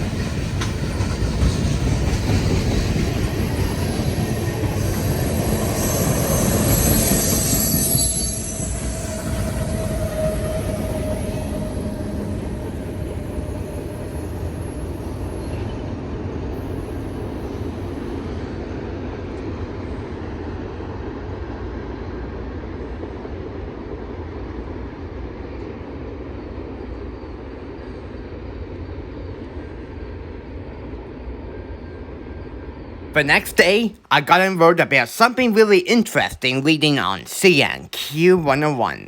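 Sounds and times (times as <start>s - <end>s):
freight train rolling on rails: 0.0s - 39.0s.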